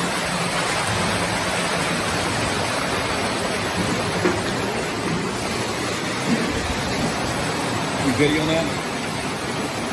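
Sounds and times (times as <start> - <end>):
water gushing from burst pipe: 0.0 - 9.9.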